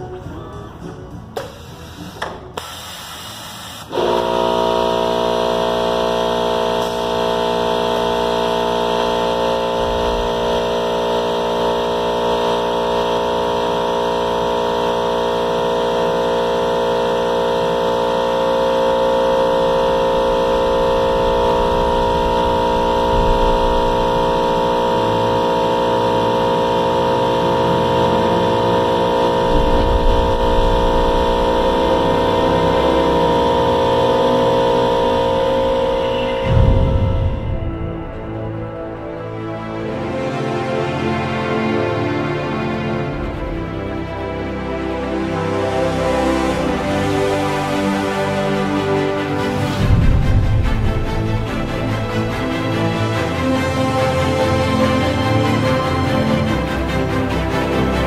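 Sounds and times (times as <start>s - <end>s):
mill spindle whine: 0.0s - 58.0s
low rumbling of cutting: 3.9s - 40.3s, 41.7s - 58.0s.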